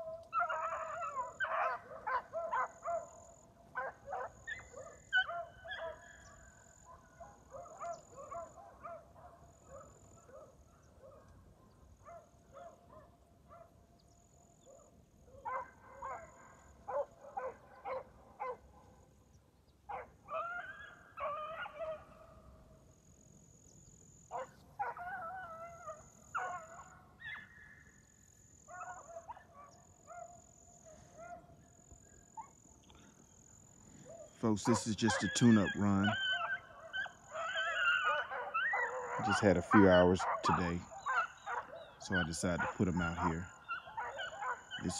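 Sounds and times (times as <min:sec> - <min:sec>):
beagles baying: 0:00.0 - 0:13.8, 0:14.6 - 0:19.0, 0:19.8 - 0:22.6, 0:23.8 - 0:27.8, 0:28.7 - 0:44.9.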